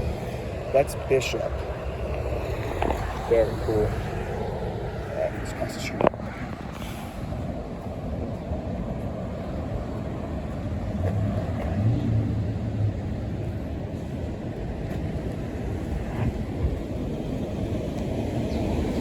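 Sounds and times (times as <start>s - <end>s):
engine hum: 0.0s - 19.0s
rumble of passing vehicles: 0.0s - 19.0s.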